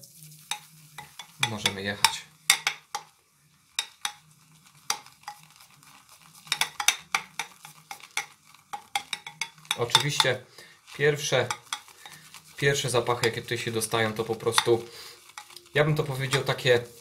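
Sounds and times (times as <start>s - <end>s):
shaving brush swishing in bowl: 0.0s - 2.4s, 3.6s - 17.0s
brush clicking against bowl: 0.5s - 3.1s, 3.8s - 4.2s, 4.8s - 16.7s.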